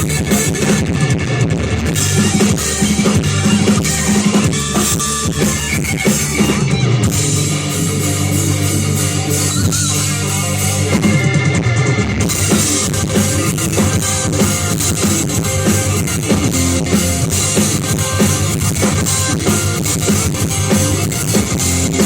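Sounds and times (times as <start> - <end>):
bass drum and snare: 0.0 - 22.0
live rock band: 0.0 - 22.0.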